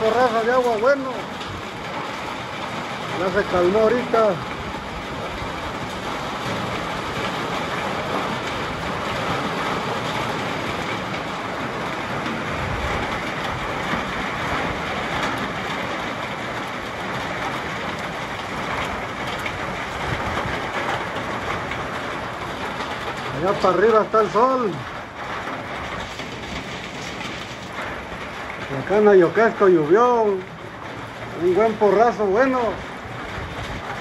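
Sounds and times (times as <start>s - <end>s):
steady rain hissing: 0.0s - 34.0s.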